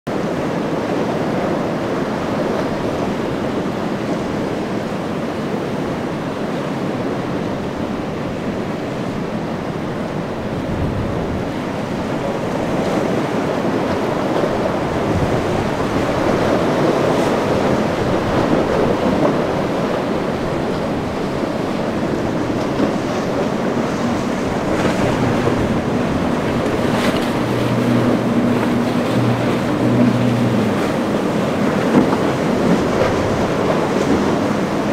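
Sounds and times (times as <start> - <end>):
boat engines droning: 0.1 - 34.9
waves breaking: 0.1 - 34.9
wind buffeting microphone: 0.1 - 34.9.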